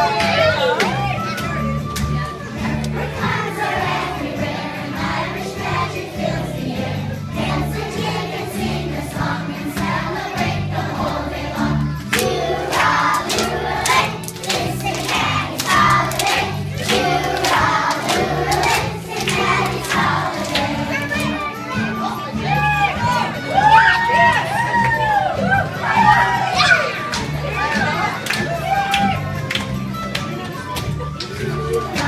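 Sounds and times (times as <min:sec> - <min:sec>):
children singing: 0:02.4 - 0:24.6, 0:25.4 - 0:28.2, 0:31.4 - 0:32.0.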